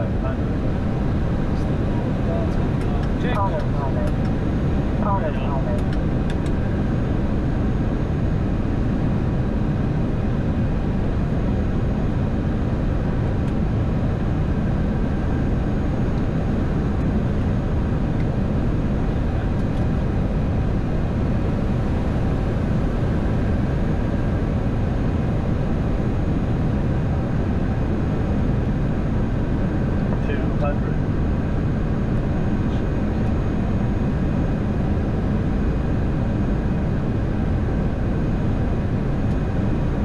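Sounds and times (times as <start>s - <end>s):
airflow and engine noise: 0.0s - 40.0s.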